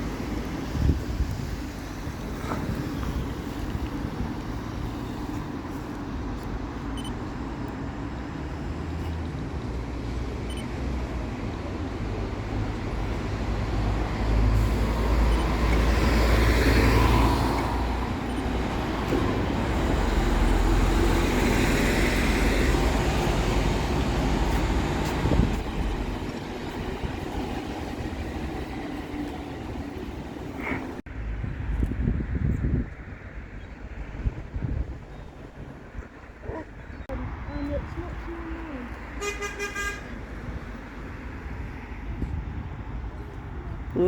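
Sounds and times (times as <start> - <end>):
heavy vehicles passing: 0.0 - 44.0
vehicle traffic rumbling: 0.0 - 44.0.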